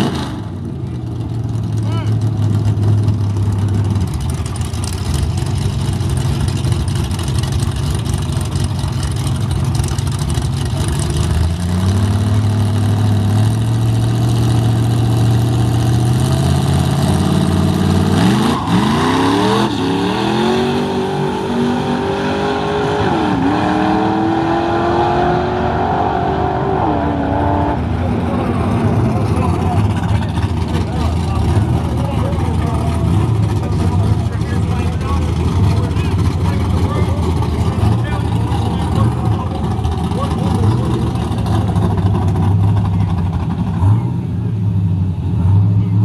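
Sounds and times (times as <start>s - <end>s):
truck engines revving and accelerating: 0.0s - 46.0s.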